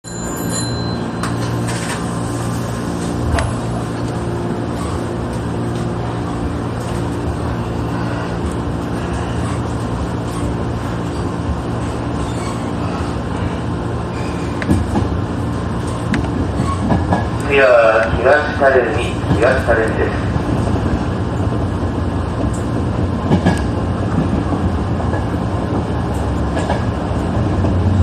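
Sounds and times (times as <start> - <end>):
train motors humming: 0.2 - 28.0
train wheels rumbling: 0.6 - 28.0.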